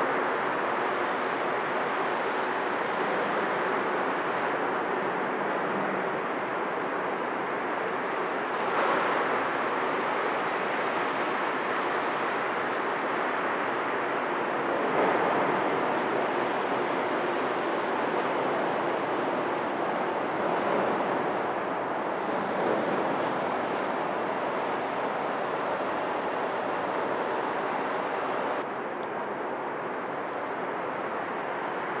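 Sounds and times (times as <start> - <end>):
waterfront rushing noise: 0.0 - 32.0.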